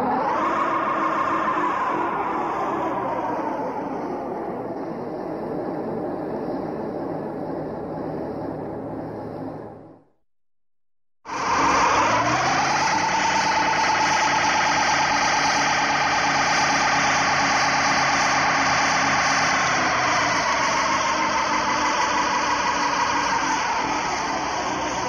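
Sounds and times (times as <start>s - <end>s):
car engine revving hard: 0.0s - 6.6s, 11.2s - 25.0s.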